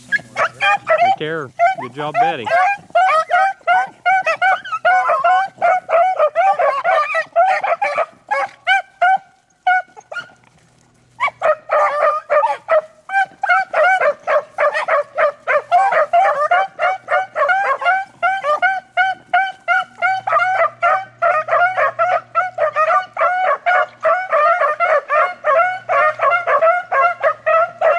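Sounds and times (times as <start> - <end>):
beagles baying: 0.0 - 10.4, 11.0 - 27.9.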